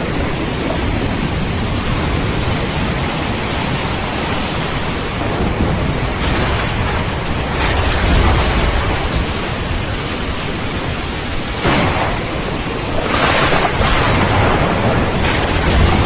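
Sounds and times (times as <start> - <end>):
heavy rain: 0.0 - 16.0
low thunder rumble: 0.0 - 16.0.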